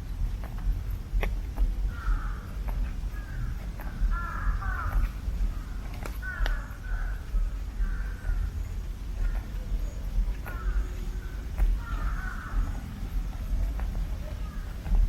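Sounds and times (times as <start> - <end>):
sharp ticks: 0.0 - 15.0
steady low rumble: 0.0 - 15.0
crow cawing: 1.9 - 13.6, 14.3 - 14.6.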